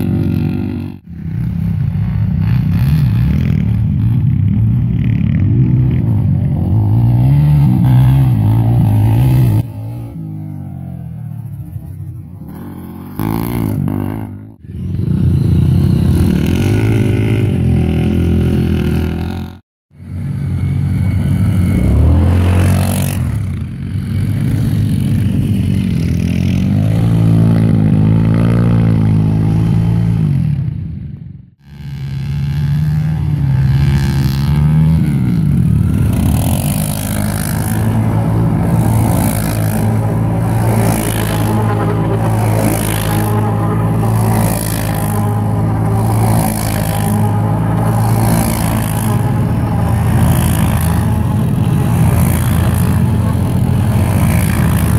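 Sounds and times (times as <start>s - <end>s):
atv engines revving: 0.0s - 54.9s.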